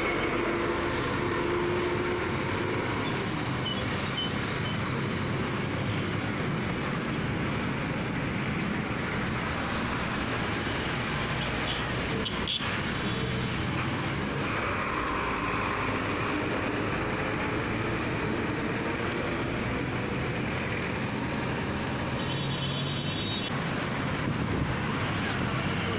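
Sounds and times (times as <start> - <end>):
road traffic passing: 0.0 - 25.9.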